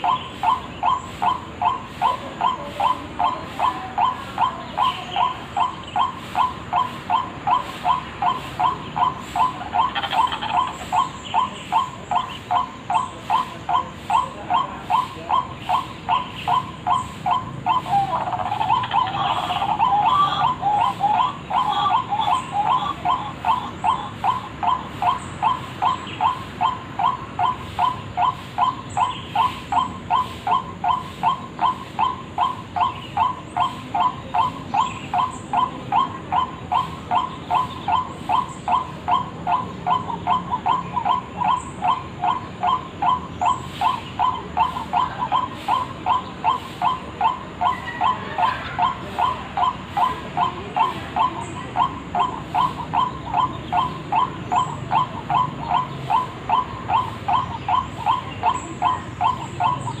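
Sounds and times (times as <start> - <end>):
waterhen calling harsh note: 0.0 - 60.0.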